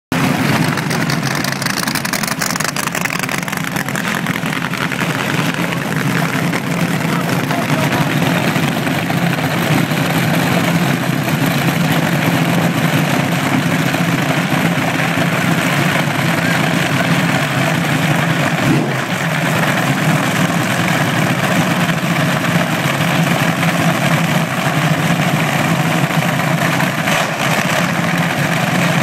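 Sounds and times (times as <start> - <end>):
dragster engines idling: 0.1 - 29.0.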